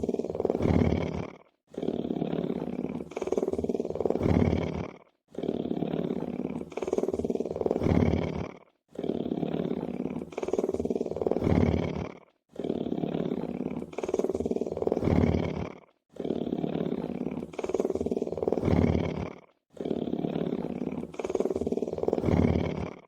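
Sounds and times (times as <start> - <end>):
lion purring: 0.0 - 23.0.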